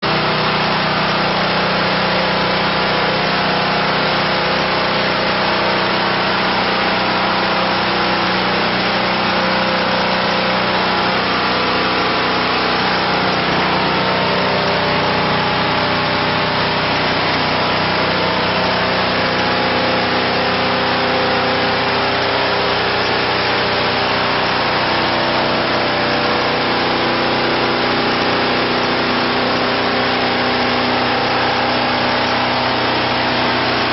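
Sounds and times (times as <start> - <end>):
band sawmill cutting log: 0.0 - 33.9.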